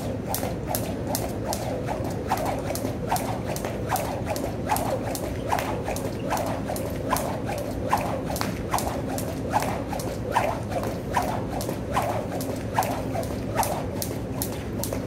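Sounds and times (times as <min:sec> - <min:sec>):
jump rope slapping the floor: 0:00.0 - 0:15.0.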